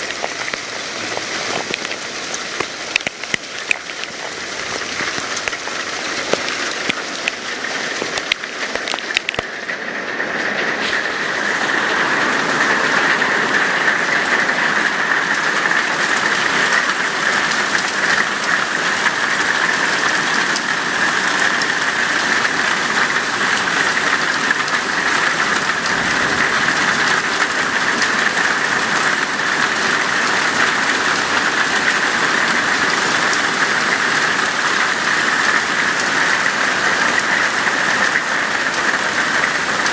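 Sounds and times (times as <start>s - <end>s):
hail pelting the ground: 0.0s - 39.9s.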